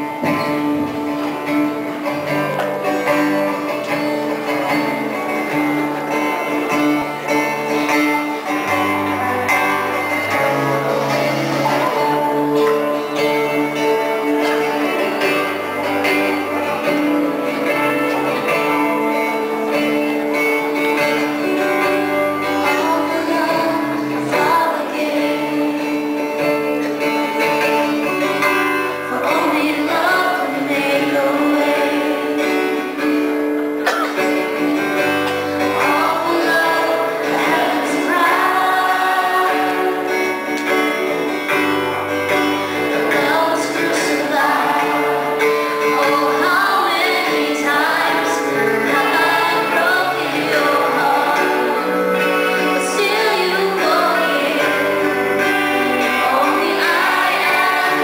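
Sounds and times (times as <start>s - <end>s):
live band playing: 0.0s - 58.0s
person singing: 0.0s - 58.0s
strummed acoustic guitar: 0.0s - 58.0s.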